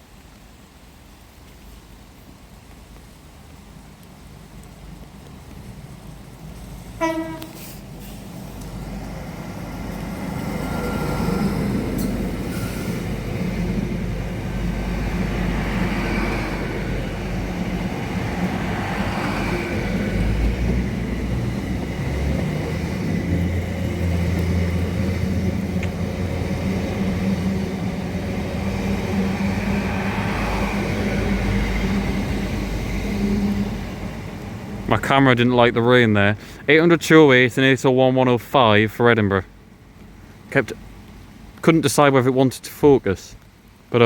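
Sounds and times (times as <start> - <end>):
train passing through station: 0.0 - 44.0.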